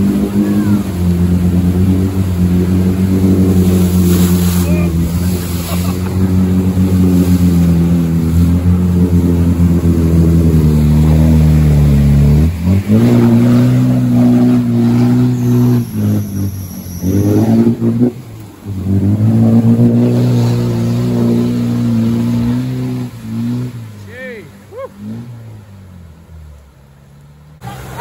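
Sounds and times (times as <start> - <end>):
engine revving under load: 0.0 - 26.6.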